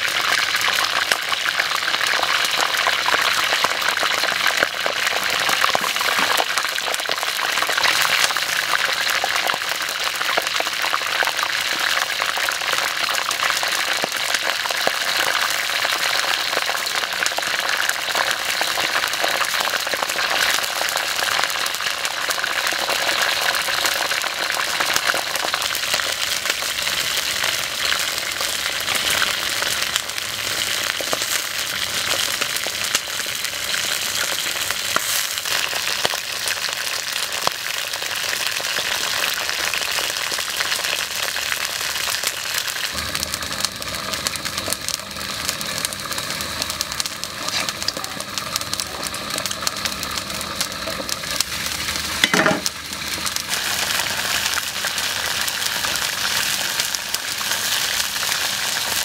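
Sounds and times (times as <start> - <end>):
deep-frying sizzle in hot oil: 0.0 - 59.0.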